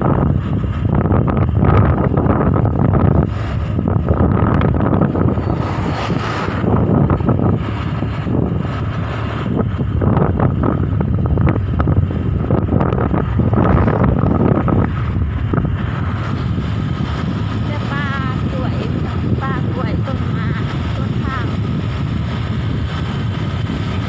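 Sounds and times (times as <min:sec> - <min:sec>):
low vehicle rumble: 0:00.0 - 0:24.0
wind buffeting microphone: 0:00.0 - 0:24.0.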